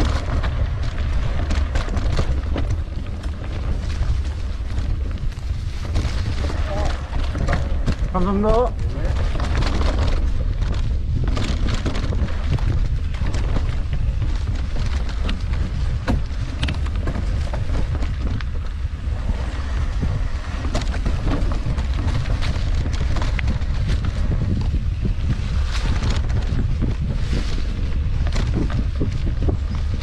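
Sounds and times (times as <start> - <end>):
bike clicks and rattles: 0.0 - 30.0
wind buffeting microphone: 0.0 - 30.0.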